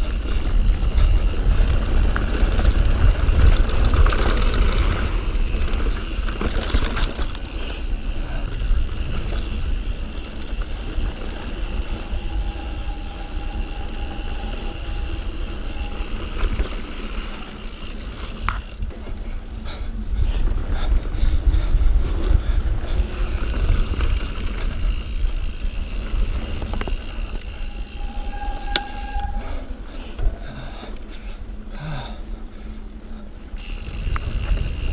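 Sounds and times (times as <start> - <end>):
thin steady whine: 0.0 - 19.7, 22.8 - 34.9
bike rattling over rough ground: 0.0 - 31.8, 32.6 - 34.9
wind rumble on microphone: 0.0 - 34.9.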